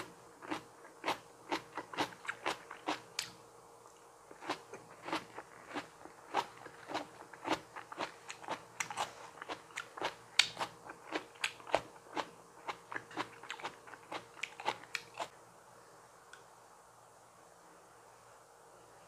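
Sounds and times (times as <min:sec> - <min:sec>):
chewing crisp raw vegetables: 0:00.0 - 0:15.3.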